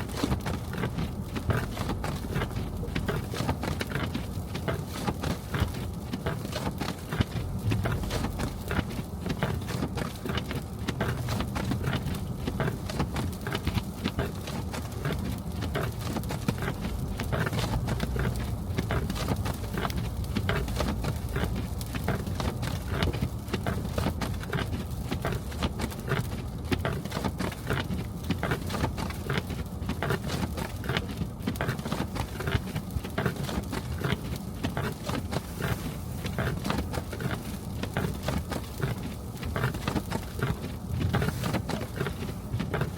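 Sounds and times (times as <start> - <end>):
snow crunching and clicking: 0.0 - 42.9
car driving low rumble: 0.4 - 42.9.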